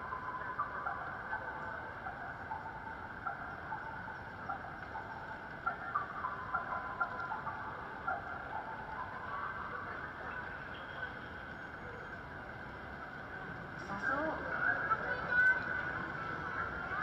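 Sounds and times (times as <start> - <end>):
street and crowd noise: 0.0 - 17.0.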